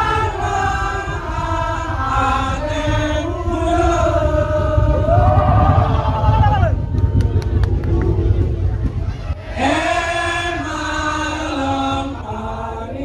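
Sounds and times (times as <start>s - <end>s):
wavering chant-like melody: 0.0s - 6.4s, 7.8s - 13.0s
heavy low drum and bass: 0.0s - 12.3s.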